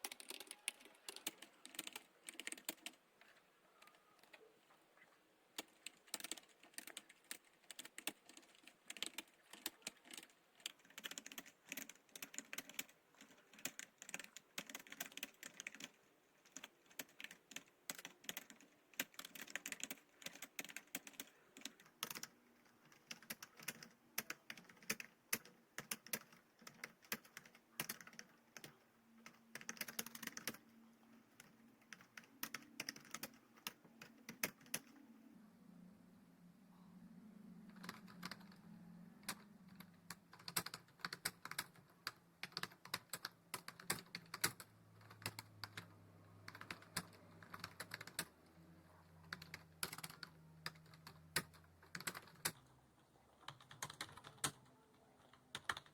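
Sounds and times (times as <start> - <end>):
computer keyboard typing: 0.0 - 4.5, 5.6 - 35.0, 37.7 - 52.7, 53.3 - 55.9.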